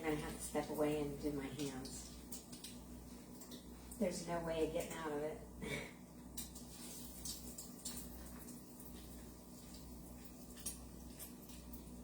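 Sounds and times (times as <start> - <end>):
chicken frying in grease: 0.0 - 12.0.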